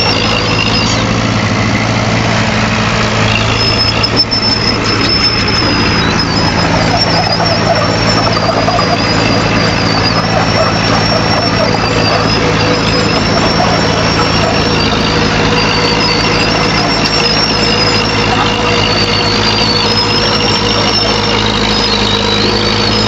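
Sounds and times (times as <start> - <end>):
diesel engine running: 0.0 - 23.0
high-pitched squeal: 0.0 - 23.0.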